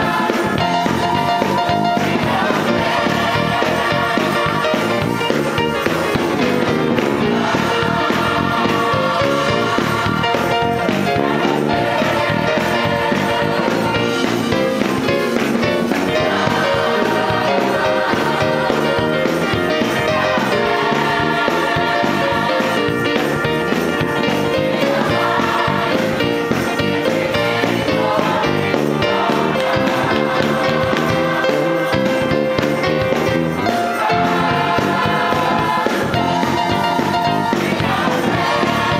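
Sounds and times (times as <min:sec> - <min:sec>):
gospel choir singing: 0:00.0 - 0:38.9
instrumental accompaniment: 0:00.0 - 0:38.9
steady beat: 0:00.0 - 0:38.9.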